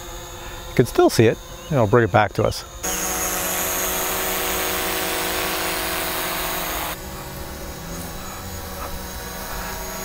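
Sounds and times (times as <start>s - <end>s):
drone buzzing hum: 0.0s - 10.0s.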